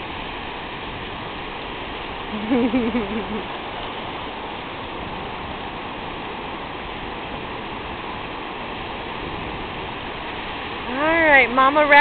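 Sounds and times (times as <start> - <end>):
ocean surf washing in: 0.0 - 12.0.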